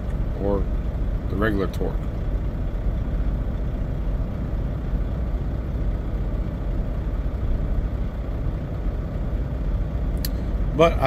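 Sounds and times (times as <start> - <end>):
low rumbling hum: 0.0 - 11.0.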